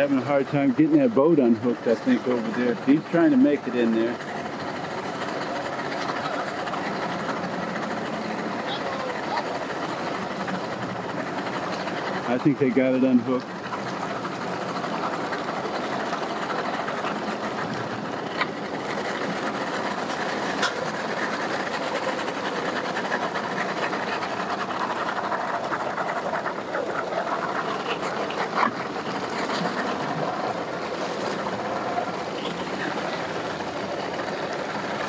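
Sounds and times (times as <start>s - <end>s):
outboard motors idling: 0.0s - 35.0s.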